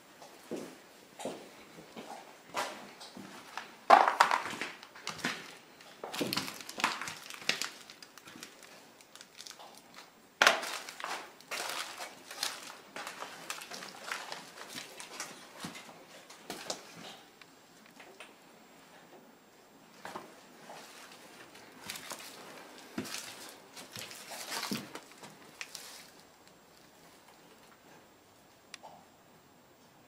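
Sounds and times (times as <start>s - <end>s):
footsteps crunching over debris: 0.4s - 17.3s, 19.9s - 28.0s.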